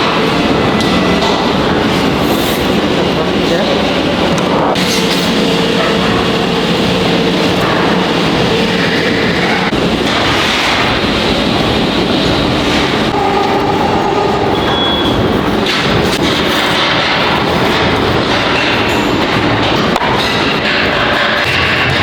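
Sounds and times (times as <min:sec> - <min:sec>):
machinery clattering on sheet metal: 0:00.0 - 0:22.0.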